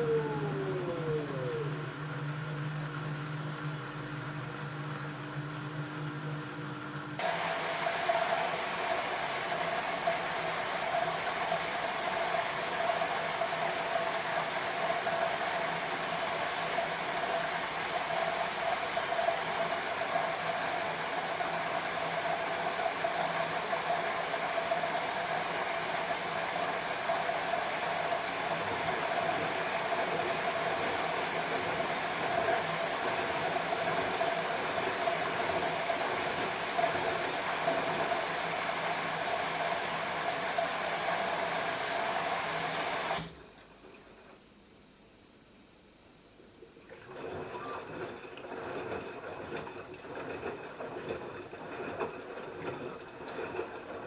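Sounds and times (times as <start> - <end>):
washing machine whirring: 0.0 - 44.4, 46.6 - 54.0.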